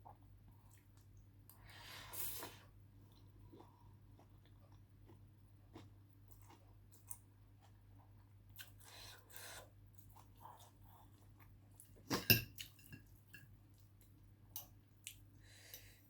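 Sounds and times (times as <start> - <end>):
person chewing food: 0.5 - 16.0.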